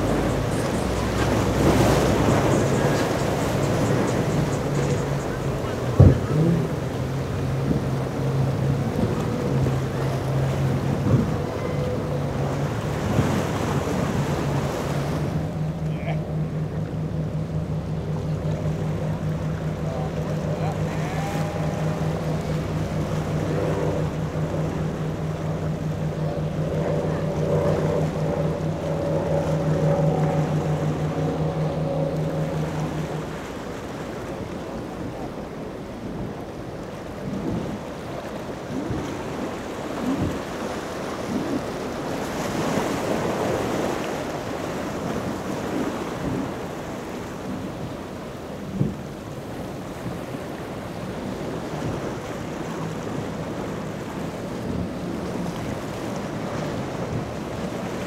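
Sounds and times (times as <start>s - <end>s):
powerboat engines droning: 0.0s - 58.0s
waves rushing: 0.0s - 58.0s
wind buffeting microphone: 0.0s - 58.0s.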